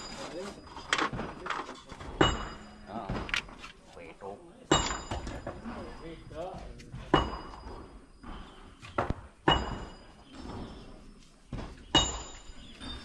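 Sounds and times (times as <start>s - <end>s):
metal striking metal: 0.0s - 3.6s, 4.7s - 8.6s, 9.2s - 13.0s.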